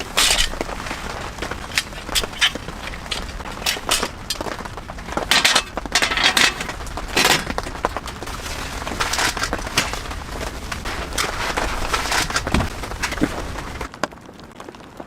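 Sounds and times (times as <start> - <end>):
crackling and clicking: 0.0 - 15.0.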